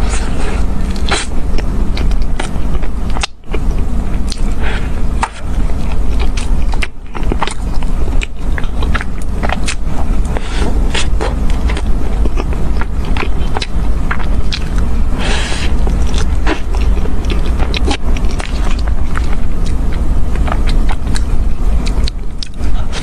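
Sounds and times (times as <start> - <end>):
biting and chewing crunchy food: 0.0 - 23.0
steady low rumble: 0.0 - 23.0.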